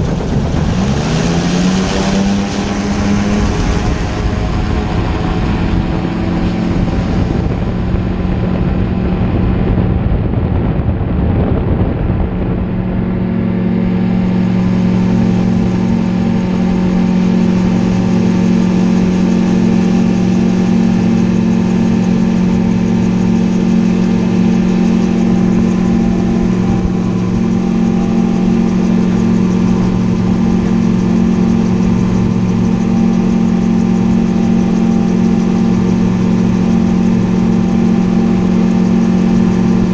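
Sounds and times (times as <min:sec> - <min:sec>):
gyroplane engine droning: 0:00.0 - 0:39.9.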